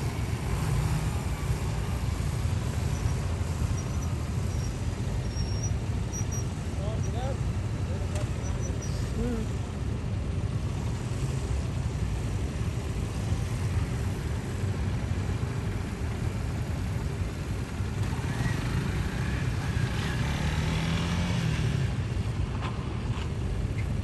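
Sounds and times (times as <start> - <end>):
motorcycles running at low speed: 0.0 - 24.0.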